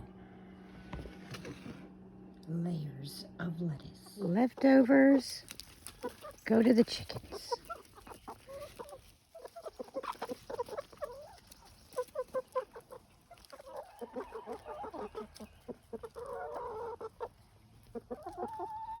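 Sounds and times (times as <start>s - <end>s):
chickens clucking: 3.7s - 19.0s.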